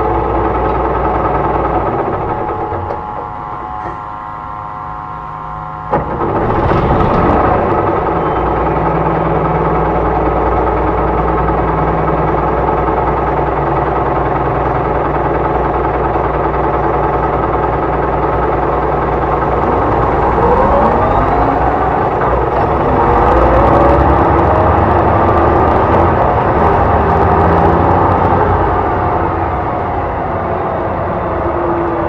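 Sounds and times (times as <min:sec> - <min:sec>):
bus engine running: 0:00.0 - 0:32.0
high electric motor whine: 0:00.0 - 0:32.0.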